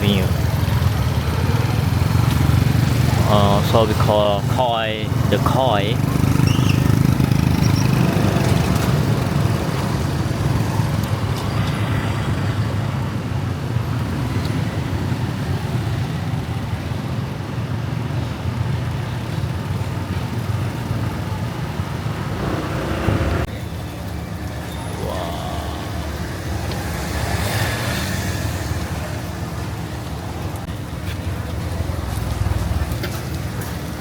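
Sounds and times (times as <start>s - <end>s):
city road traffic rumble: 0.0s - 34.0s.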